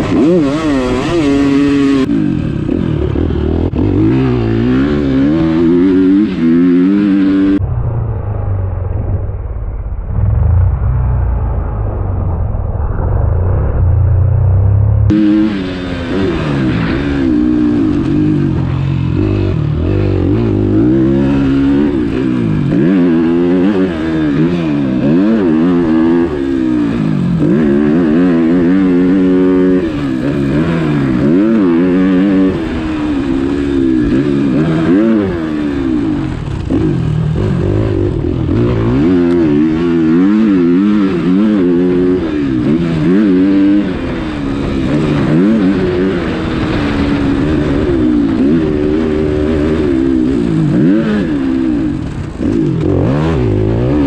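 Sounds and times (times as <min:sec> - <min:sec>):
dirt bike engine revving: 0:00.0 - 0:07.6, 0:14.8 - 0:54.0.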